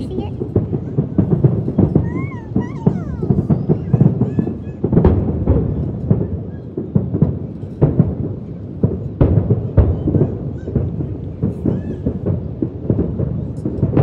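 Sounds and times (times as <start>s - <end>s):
firework shells booming: 0.0s - 14.0s.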